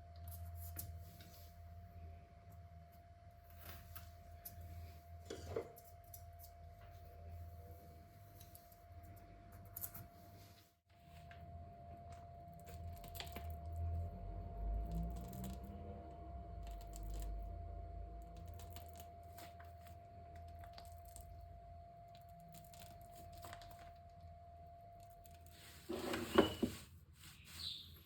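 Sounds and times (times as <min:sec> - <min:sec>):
faint hum: 0:00.0 - 0:25.9.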